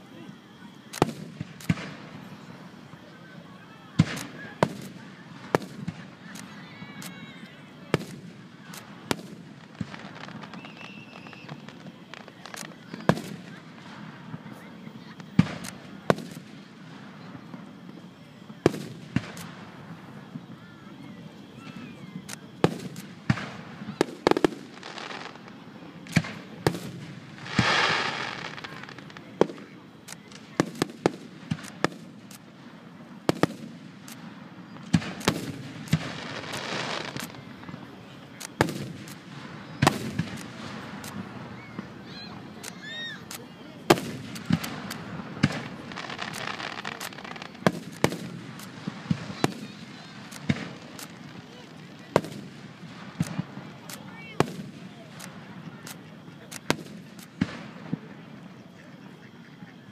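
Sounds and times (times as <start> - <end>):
fireworks bursting with sharp bangs: 0.0 - 59.9
fireworks hissing and crackling: 0.0 - 59.9.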